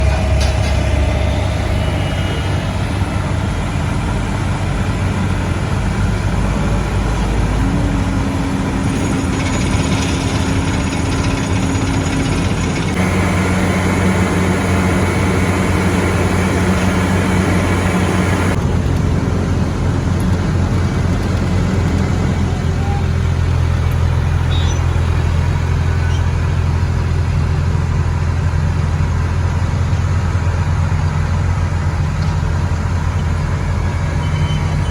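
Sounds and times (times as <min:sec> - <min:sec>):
low hum: 0:00.0 - 0:28.4
heavy construction machinery engines: 0:00.0 - 0:34.9.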